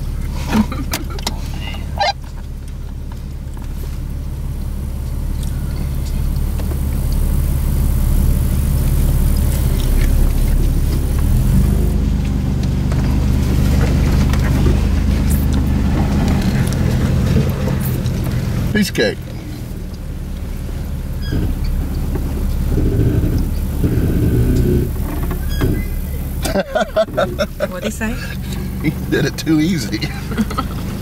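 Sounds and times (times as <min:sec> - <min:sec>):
off-road engine running low: 0:00.0 - 0:31.0.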